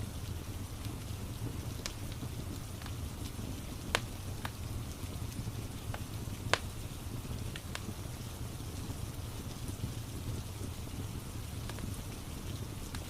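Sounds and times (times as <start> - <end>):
rain hissing: 0.0 - 13.0
fireplace crackling pops: 0.1 - 13.0.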